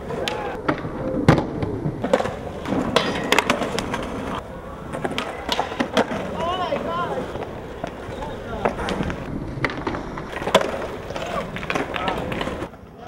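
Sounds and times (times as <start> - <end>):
skateboard clacks and slaps: 0.0 - 13.0
skateboard wheels rolling on concrete: 0.0 - 13.0.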